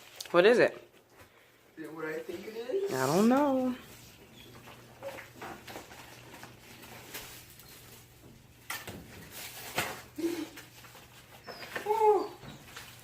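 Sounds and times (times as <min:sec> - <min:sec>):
package rustling: 0:02.2 - 0:13.0.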